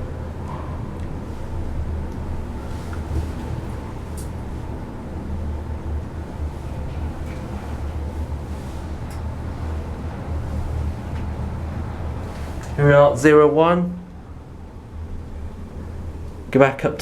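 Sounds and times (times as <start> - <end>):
lift car humming: 0.0 - 17.0.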